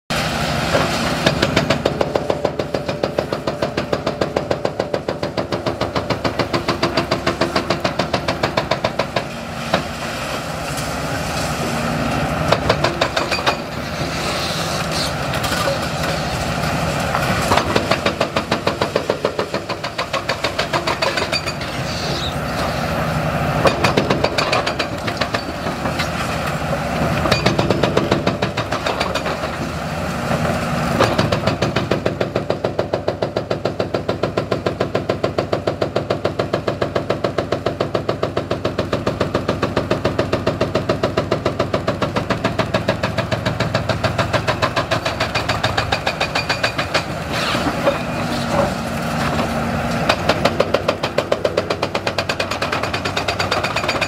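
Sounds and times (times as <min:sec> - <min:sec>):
excavator diesel engine running: 0:00.1 - 0:54.0
hydraulic breaker hammer pounding concrete: 0:00.7 - 0:09.9, 0:12.5 - 0:13.8, 0:17.2 - 0:21.8, 0:23.6 - 0:26.2, 0:27.1 - 0:29.8, 0:30.9 - 0:54.0.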